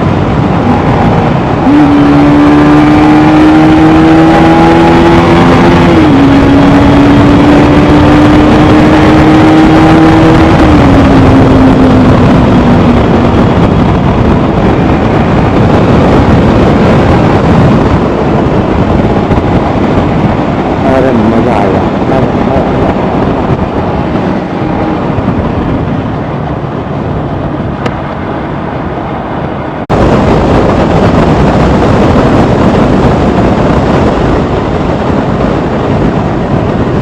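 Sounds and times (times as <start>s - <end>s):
vehicle engine changing gears: 0.0s - 37.0s
wind and road noise: 0.0s - 37.0s.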